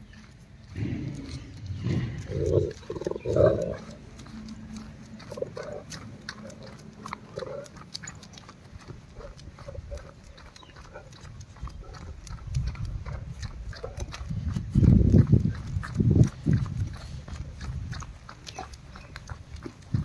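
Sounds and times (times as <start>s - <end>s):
dog making low noises: 0.8s - 20.0s.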